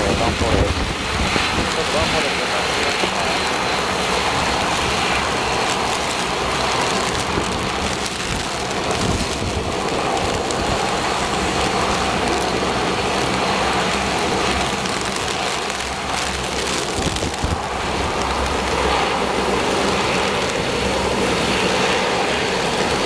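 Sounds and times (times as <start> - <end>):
gusting wind: 0.0 - 23.0
heavy rain: 0.0 - 23.0.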